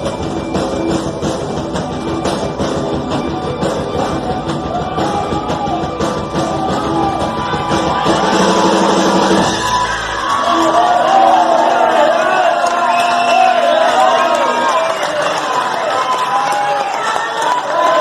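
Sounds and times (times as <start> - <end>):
punk rock band playing: 0.0 - 14.9.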